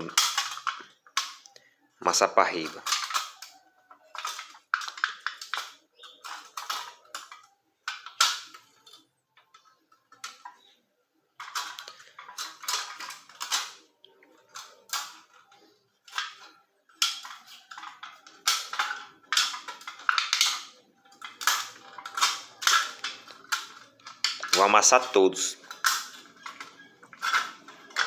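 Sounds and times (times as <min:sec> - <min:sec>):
aluminium can being crushed: 0:00.0 - 0:10.7, 0:11.4 - 0:28.0.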